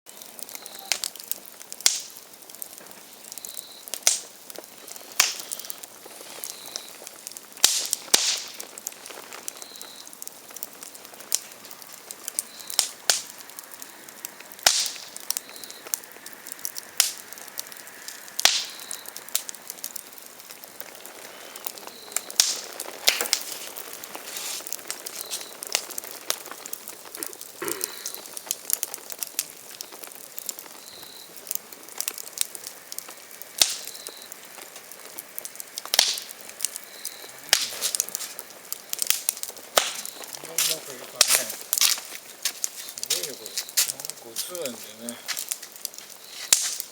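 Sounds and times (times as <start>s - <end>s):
loud fire pops: 0.1s - 46.9s
wood fire crackling: 0.1s - 46.9s.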